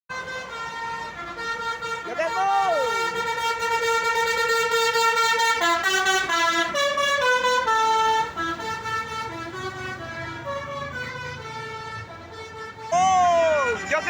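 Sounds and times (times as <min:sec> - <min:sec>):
multi-tone bus horn playing a tune: 0:00.1 - 0:14.0.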